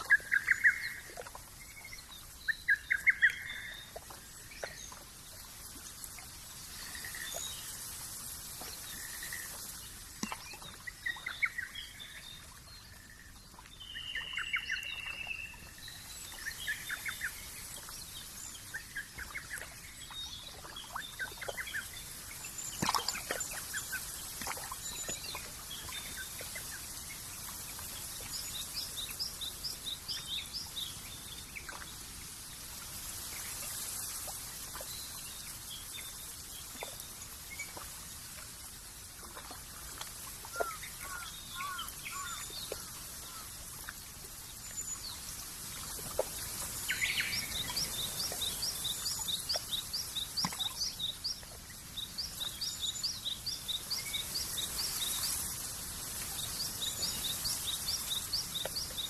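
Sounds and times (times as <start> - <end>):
outdoor ambience hiss: 0.0 - 59.0.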